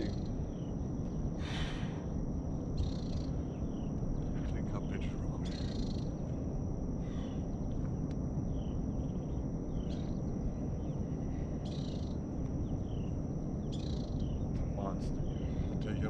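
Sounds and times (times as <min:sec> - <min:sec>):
bird chirps: 0:00.0 - 0:06.3, 0:08.5 - 0:16.0
insect drone: 0:00.0 - 0:16.0.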